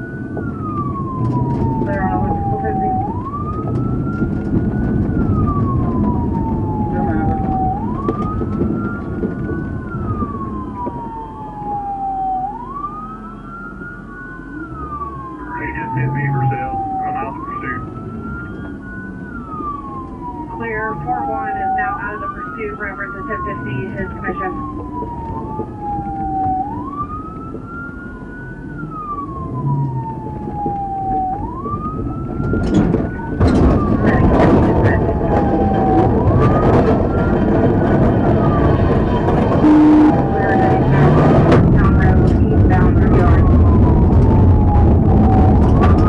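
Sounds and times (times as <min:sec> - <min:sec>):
car engine and tyres rumbling: 0:00.0 - 0:46.0
police siren wailing: 0:00.0 - 0:46.0.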